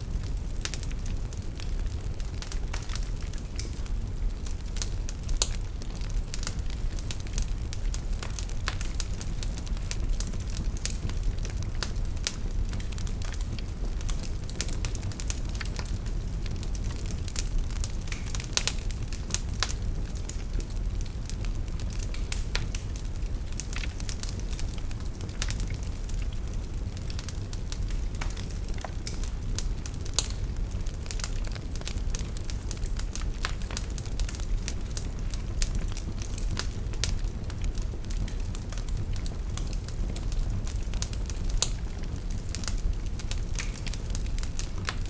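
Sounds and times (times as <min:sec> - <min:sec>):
fireplace flames rumbling: 0:00.0 - 0:45.0
logs crackling and popping: 0:00.1 - 0:45.0.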